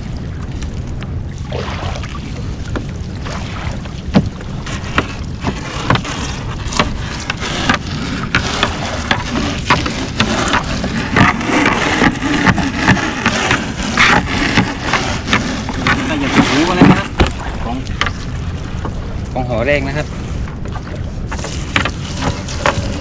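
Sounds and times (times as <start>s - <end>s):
boat engine rumble: 0.0s - 23.0s.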